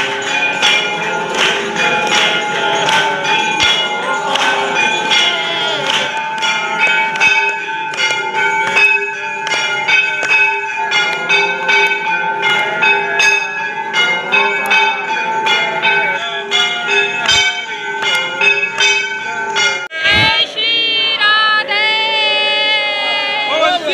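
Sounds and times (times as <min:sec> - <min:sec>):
temple bells ringing rapidly: 0:00.0 - 0:23.9.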